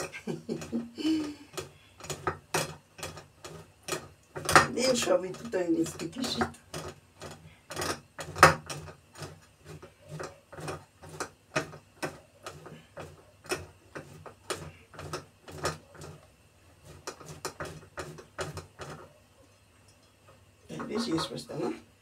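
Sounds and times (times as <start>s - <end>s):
cheese rasping on metal grater: 0.0s - 19.1s.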